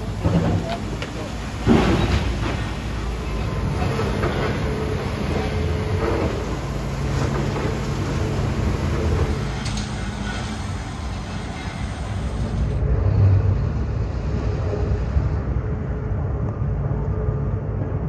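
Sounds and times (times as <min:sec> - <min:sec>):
excavator diesel engine rumble: 0:00.0 - 0:18.0.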